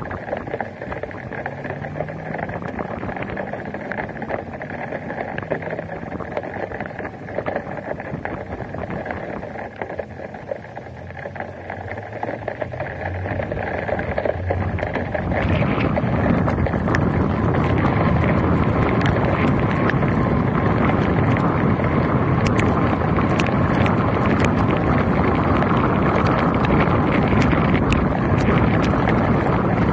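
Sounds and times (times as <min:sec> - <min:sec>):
raindrop ticks: 0:00.0 - 0:29.9
vehicle engine hum: 0:00.0 - 0:29.9
wind on microphone: 0:00.0 - 0:29.9.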